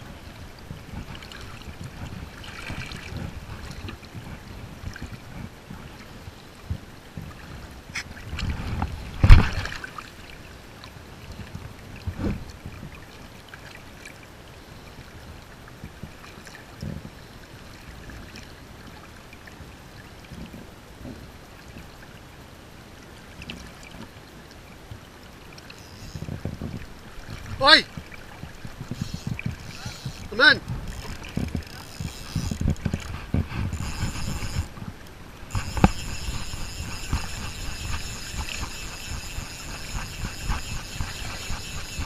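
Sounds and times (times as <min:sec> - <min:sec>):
river water lapping: 0:00.0 - 0:42.0.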